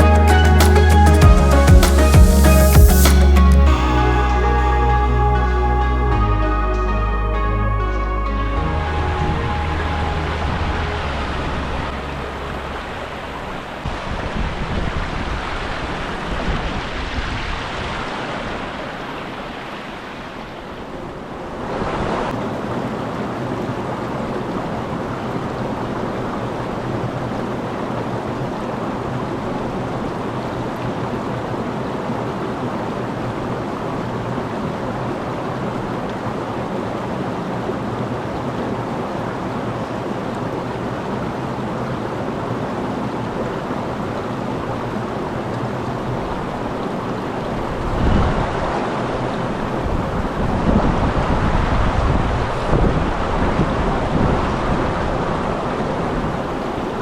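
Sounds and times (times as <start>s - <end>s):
waterfall water rushing: 8.6s - 57.0s.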